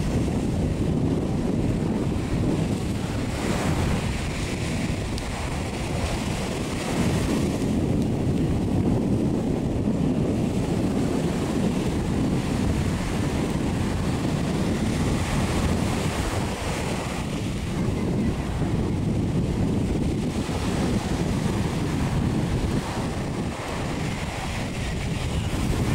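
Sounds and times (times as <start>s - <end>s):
ocean surf: 0.0s - 25.9s
wind buffeting microphone: 0.0s - 25.9s.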